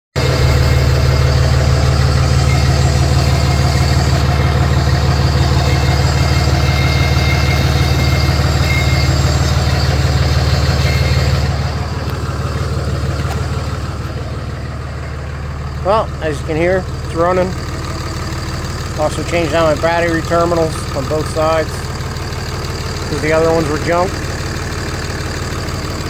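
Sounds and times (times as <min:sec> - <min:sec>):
diesel engine idling: 0:00.2 - 0:26.0.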